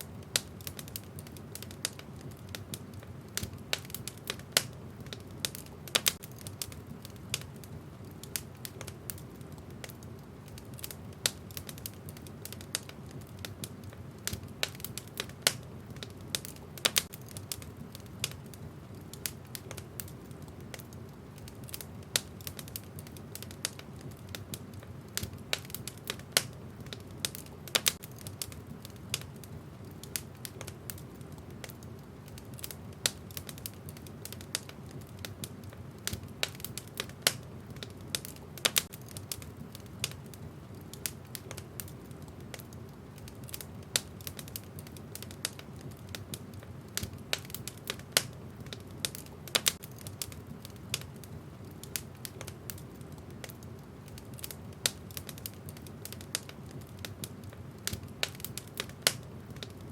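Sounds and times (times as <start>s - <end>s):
low rush of flames: 0.0s - 59.9s
wood fire crackling: 0.0s - 59.9s.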